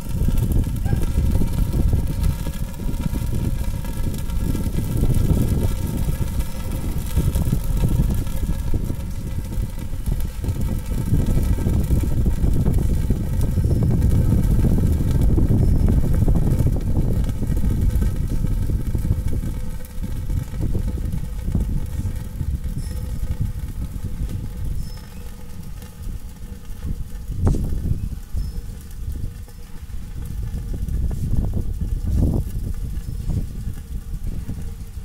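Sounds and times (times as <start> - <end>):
swirling flame rumble: 0.0 - 35.0.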